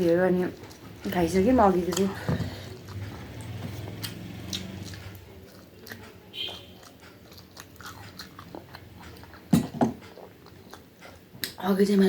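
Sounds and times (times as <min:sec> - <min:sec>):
mouth chewing with wet clicks: 0:00.4 - 0:11.6
sharp eating sounds: 0:00.4 - 0:11.6.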